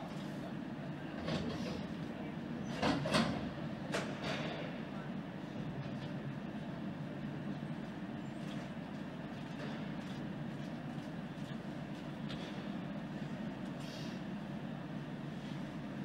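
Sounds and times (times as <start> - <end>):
ice arena low rumble: 0.0 - 16.0.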